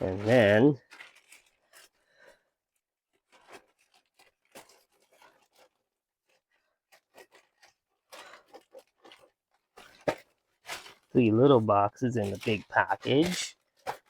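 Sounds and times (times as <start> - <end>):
plastic wrapping crinkling and tearing: 0.0 - 14.0.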